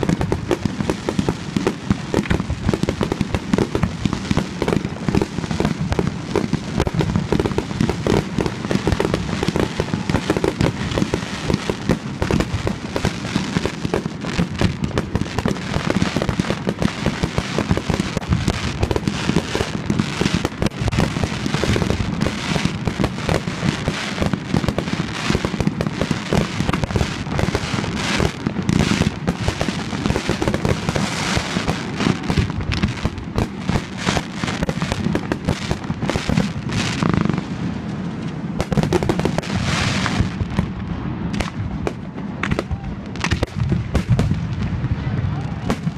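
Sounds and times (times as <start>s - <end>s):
fireworks rapid bangs: 0.0s - 37.7s, 38.4s - 45.9s.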